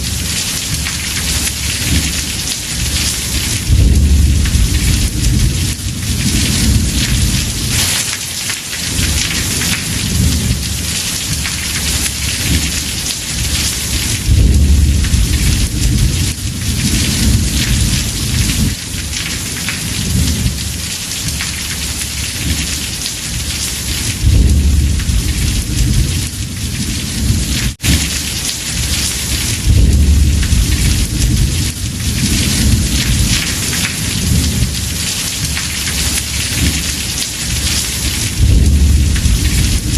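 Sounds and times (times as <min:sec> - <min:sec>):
thunder rumbling: 0:00.0 - 0:08.0, 0:08.9 - 0:39.9
heavy rain on a roof: 0:00.0 - 0:39.9.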